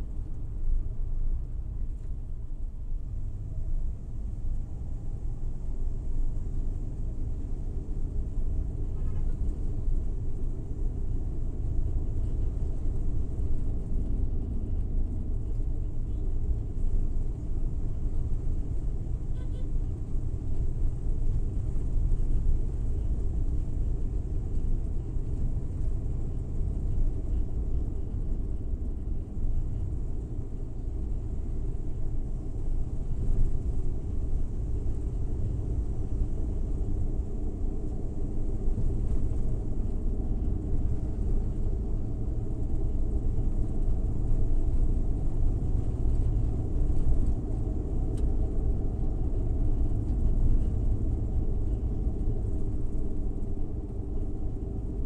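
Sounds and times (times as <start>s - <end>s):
van engine and tyres rumbling: 0.0s - 55.0s.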